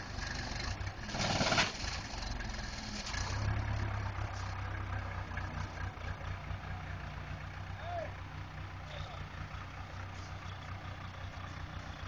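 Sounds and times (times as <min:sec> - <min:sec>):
backhoe diesel engine running: 0:00.0 - 0:12.0.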